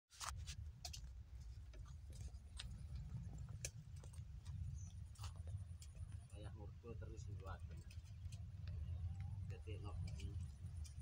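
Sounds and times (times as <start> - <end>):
wind buffeting microphone: 0.7 - 11.0.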